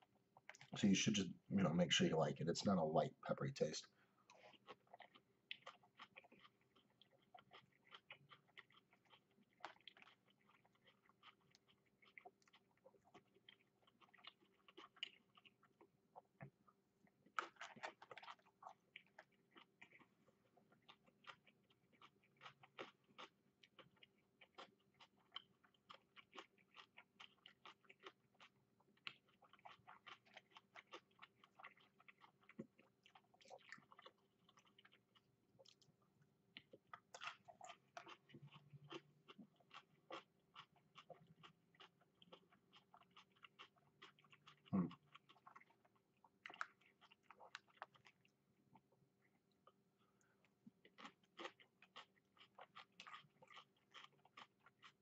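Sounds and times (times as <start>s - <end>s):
faint chewing: 0.0s - 55.0s.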